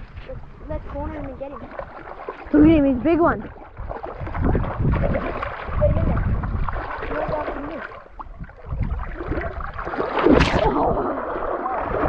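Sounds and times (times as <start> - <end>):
wading through shallow water: 0.0 - 12.0.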